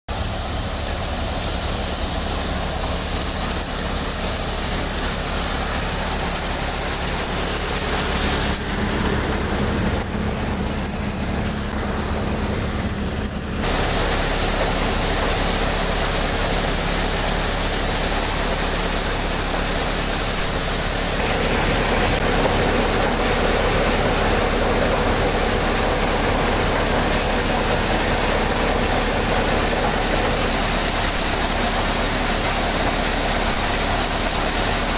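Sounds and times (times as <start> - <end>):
engine drone: 0.1 - 34.9
thresher machine hum: 0.1 - 34.9.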